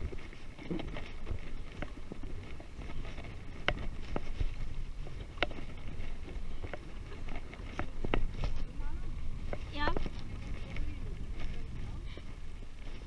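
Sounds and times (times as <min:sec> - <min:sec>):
bike tyres rumbling on concrete: 0:00.0 - 0:13.0
wind on microphone: 0:00.0 - 0:13.0.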